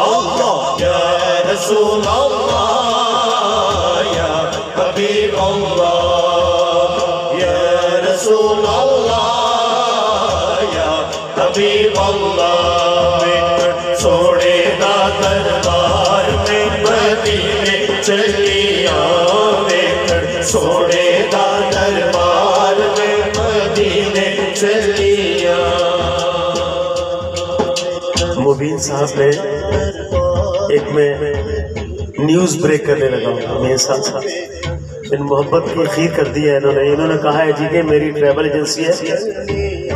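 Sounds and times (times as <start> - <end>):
hand drum rhythm: 0.0 - 39.9
man singing through loudspeakers: 0.0 - 39.9.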